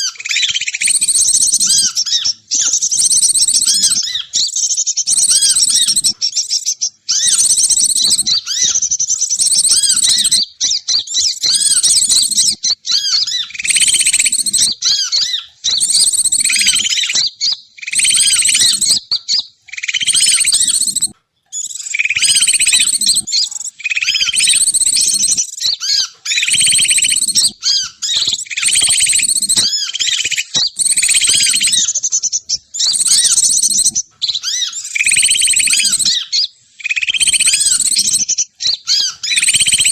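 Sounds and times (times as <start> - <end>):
bird lure chirping and twittering: 0.0 - 39.9.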